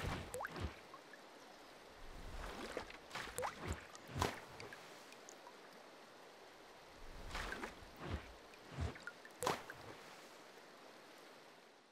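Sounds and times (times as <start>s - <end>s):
water splashes and drips: 0.0s - 11.7s.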